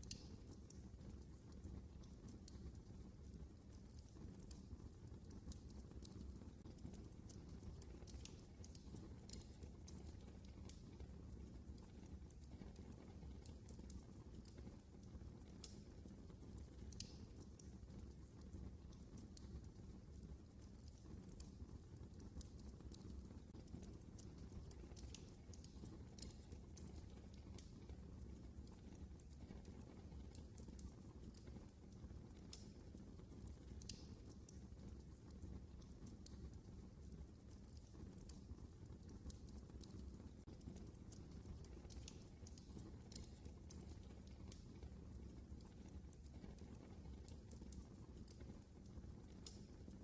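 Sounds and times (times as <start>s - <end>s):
fire crackling in fireplace: 0.0s - 50.0s.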